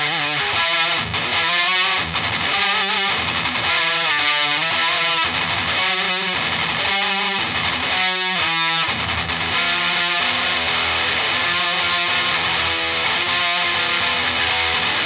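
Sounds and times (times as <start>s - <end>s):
distorted electric guitar riff: 0.0s - 15.0s.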